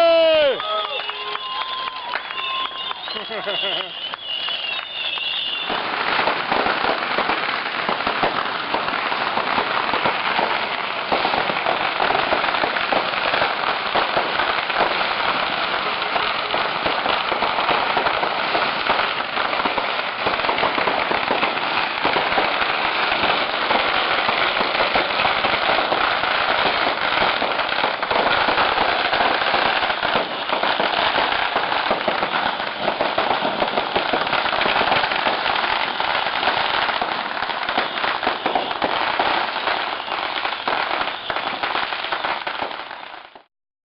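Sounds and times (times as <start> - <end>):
firecrackers crackling: 0.0 - 43.5.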